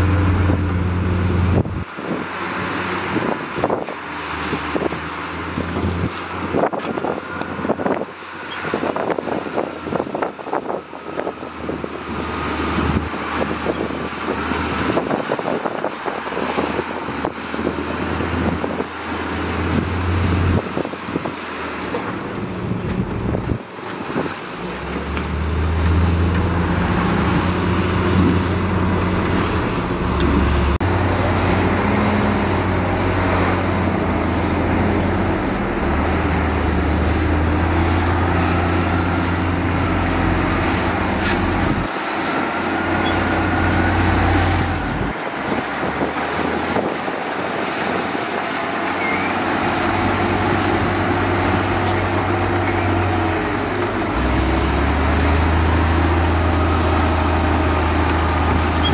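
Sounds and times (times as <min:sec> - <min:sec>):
heavy machinery diesel engines: 0:00.0 - 0:58.9.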